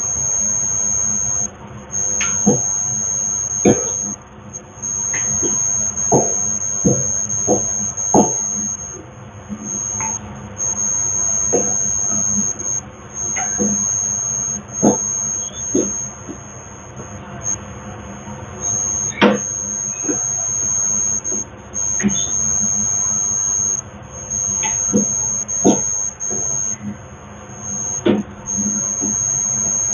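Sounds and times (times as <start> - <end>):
low hum: 0.0 - 17.6, 18.6 - 26.9
high-pitched electronic whine: 0.0 - 29.9.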